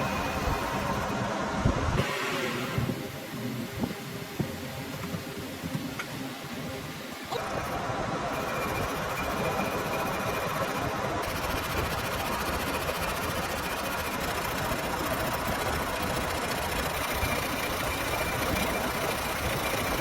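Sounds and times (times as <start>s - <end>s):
metal lathe running: 0.0s - 1.4s, 2.0s - 20.0s
faint high whine: 0.0s - 20.0s.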